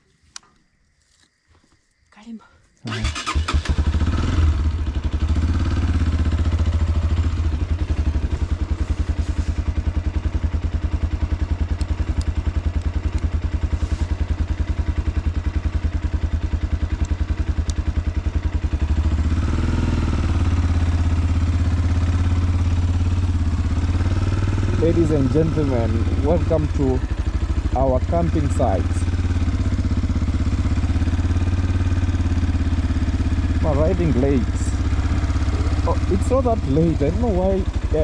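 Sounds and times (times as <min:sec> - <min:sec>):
motorcycle engine running: 0:02.9 - 0:38.0.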